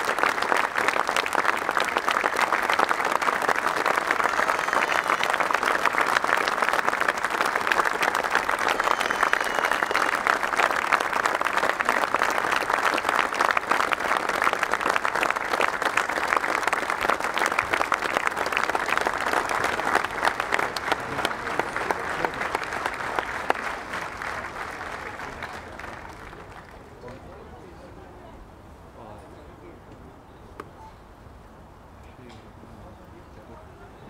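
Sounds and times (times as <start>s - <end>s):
stadium crowd applauding: 0.0s - 27.7s.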